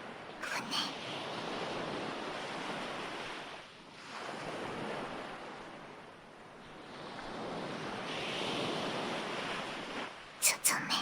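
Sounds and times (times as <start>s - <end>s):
ocean waves: 0.1s - 11.0s.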